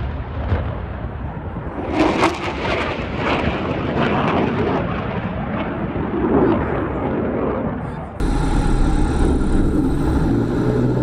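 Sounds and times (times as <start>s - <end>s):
fighter jet passing low: 1.7s - 11.0s.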